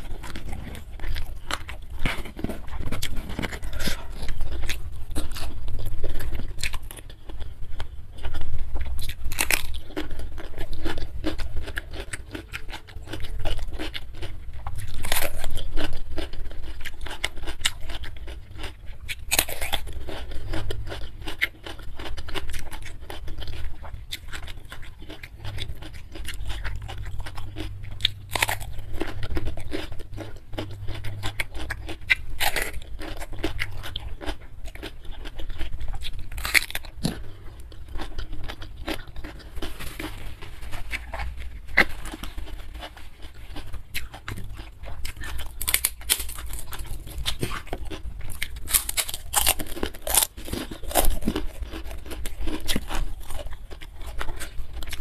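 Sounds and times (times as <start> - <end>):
crunchy cucumber bites: 0.0 - 55.0
wet chewing: 0.0 - 55.0.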